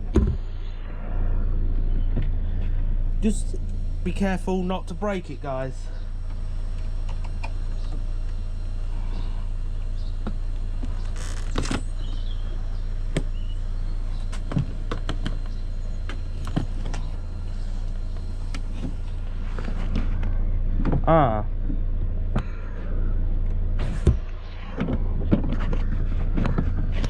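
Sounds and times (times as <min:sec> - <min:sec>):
steady low rumble: 0:00.0 - 0:26.4.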